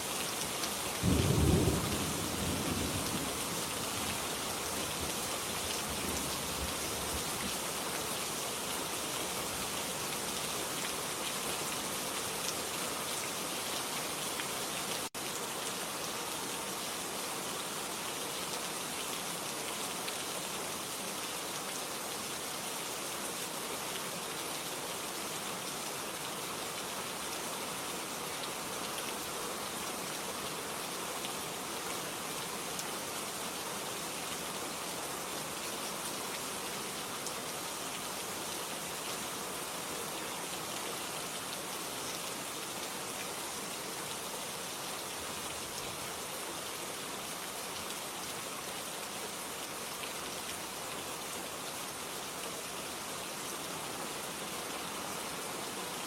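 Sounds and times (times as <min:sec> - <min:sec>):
steady rain patter: 0:00.0 - 0:56.0.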